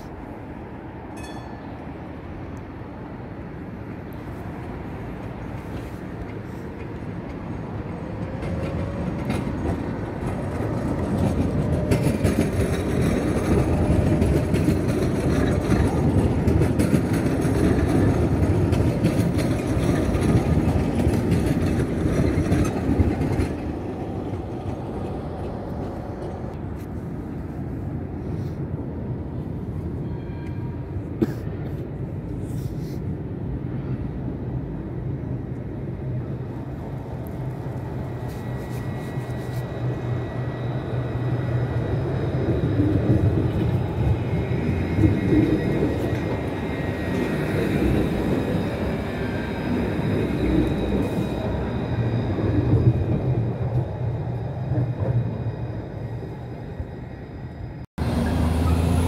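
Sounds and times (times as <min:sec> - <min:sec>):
tram rumbling past on rails: 0:00.0 - 0:59.0.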